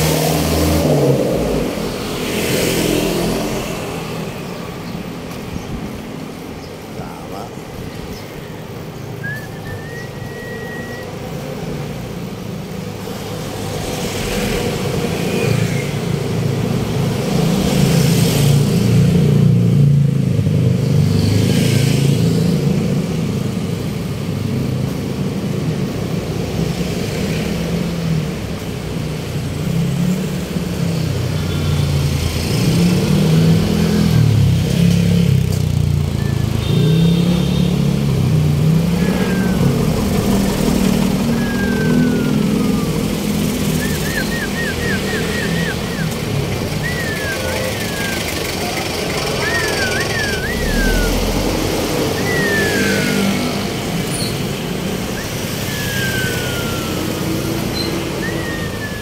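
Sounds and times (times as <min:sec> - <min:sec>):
vehicles passing by: 0:00.0 - 0:59.0.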